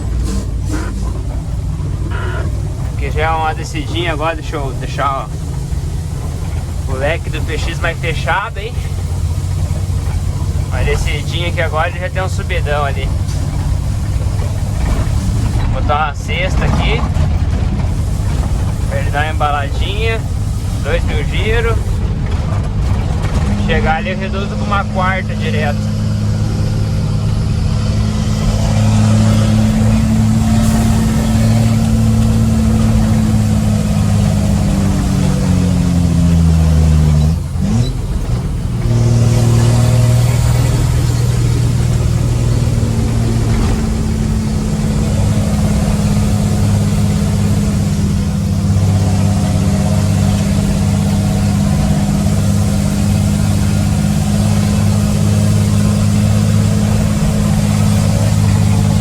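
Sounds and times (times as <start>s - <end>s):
dump truck diesel engine: 0.0s - 59.0s.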